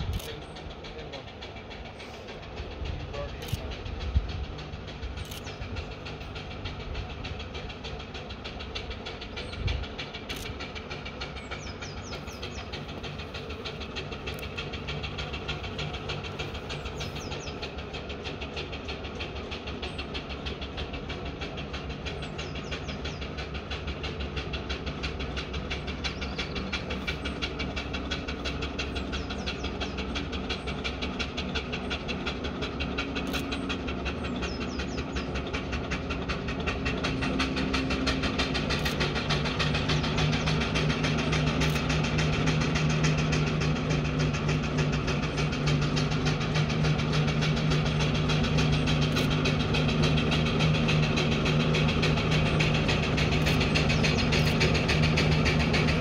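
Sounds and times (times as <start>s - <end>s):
steam engine exhaust beats: 0.0s - 56.0s.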